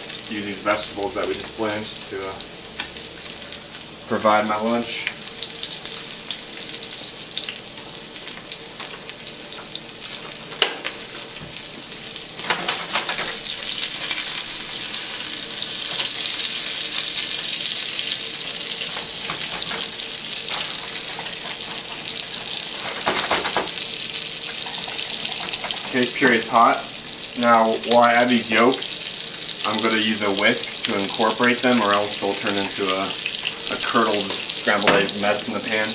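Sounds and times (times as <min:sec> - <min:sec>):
fish sizzling in oil: 0:00.0 - 0:35.9.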